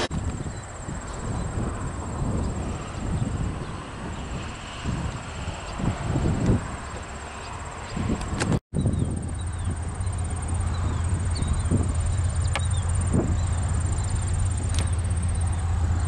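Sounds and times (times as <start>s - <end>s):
diesel locomotive engine drone: 0.0s - 16.0s
insects buzzing: 0.1s - 16.0s.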